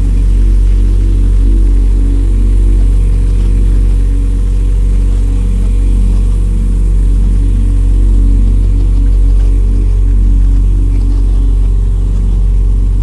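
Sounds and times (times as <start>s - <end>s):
low bass drone: 0.0s - 13.0s
muffled low synth notes: 0.0s - 13.0s.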